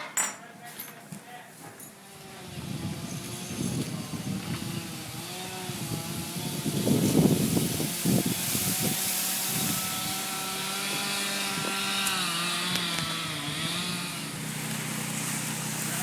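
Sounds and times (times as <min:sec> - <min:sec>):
small engine running: 0:02.1 - 0:16.0.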